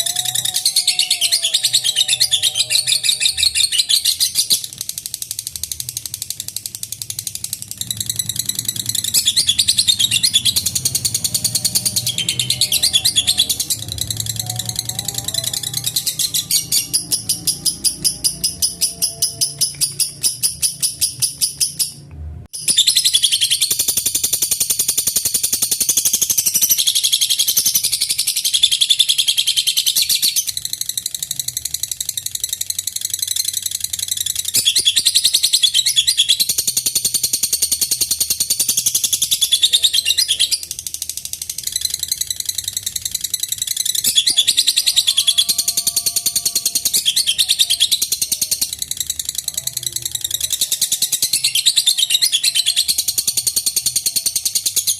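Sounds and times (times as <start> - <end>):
lovebird chattering song: 0.0 - 22.0, 22.6 - 54.9.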